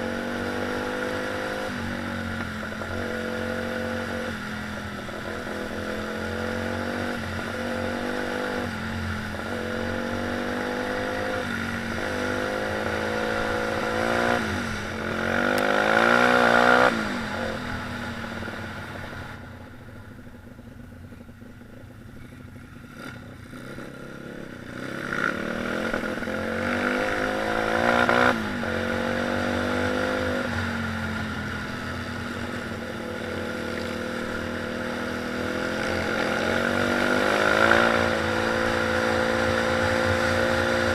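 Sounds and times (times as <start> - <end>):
motorbike engine revving: 0.0 - 19.4, 22.8 - 40.9.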